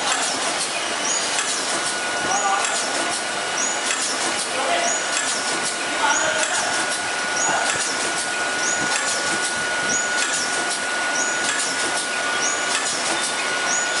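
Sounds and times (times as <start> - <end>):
machine clicks: 0.0 - 14.0
packaging machine running: 0.0 - 14.0.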